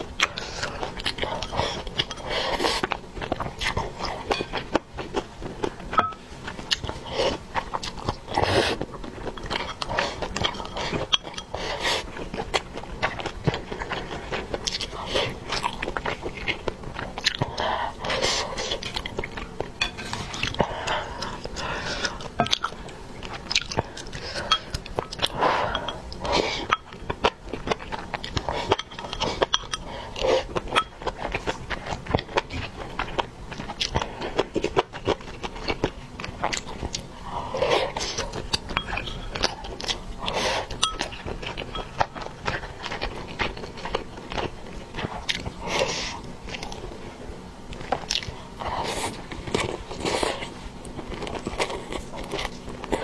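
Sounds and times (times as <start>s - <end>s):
wet chewing and mouth clicks: 0.0s - 47.0s, 47.7s - 53.0s.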